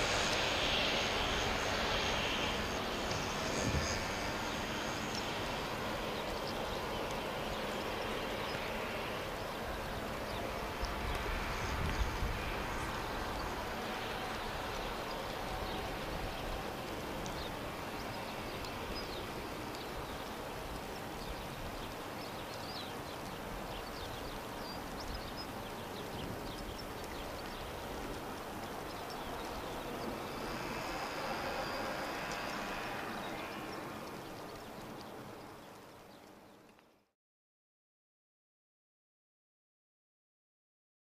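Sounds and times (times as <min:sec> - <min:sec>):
jet engine whine taxiing: 0:00.0 - 0:36.8
landing aircraft engine whine: 0:00.0 - 0:37.1.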